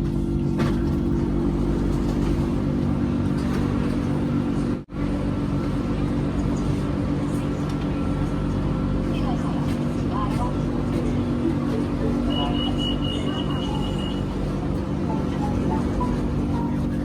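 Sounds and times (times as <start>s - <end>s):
electric hum inside train car: 0.0s - 17.0s.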